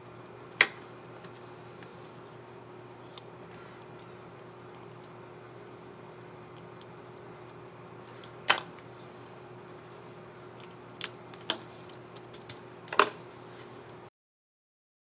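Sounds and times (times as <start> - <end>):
faint steady hum: 0.0 - 14.1.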